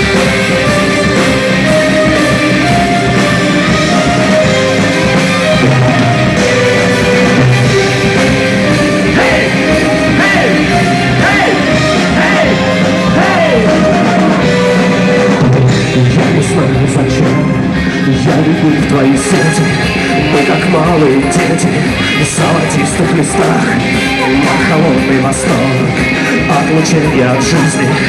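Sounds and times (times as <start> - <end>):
rock band playing: 0.0 - 28.0
sliding lead guitar line: 0.0 - 28.0.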